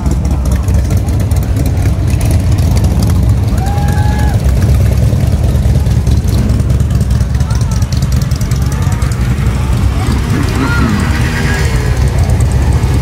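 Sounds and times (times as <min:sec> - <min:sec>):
motorcycles rumbling: 0:00.0 - 0:13.0.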